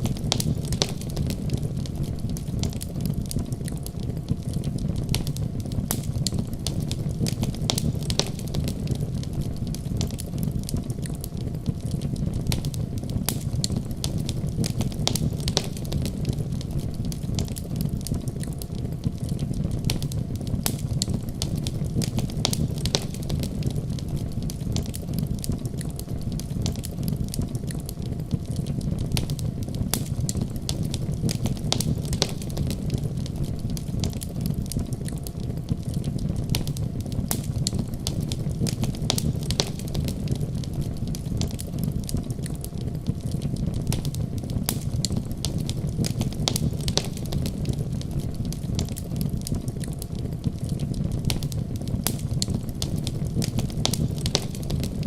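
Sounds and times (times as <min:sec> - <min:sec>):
low fire rumble: 0:00.0 - 0:55.0
wood fire crackling and popping: 0:00.0 - 0:55.0.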